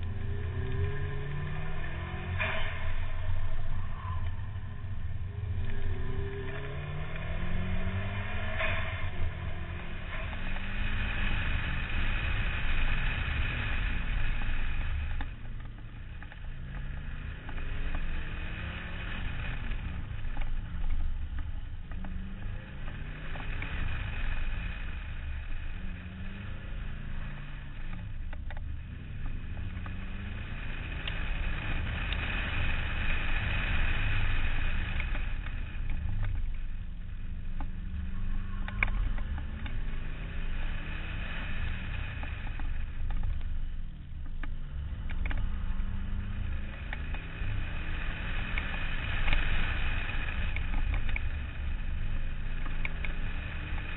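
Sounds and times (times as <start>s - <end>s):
heavy low rumble: 0.0s - 53.9s
rally car engine revving: 0.0s - 53.9s.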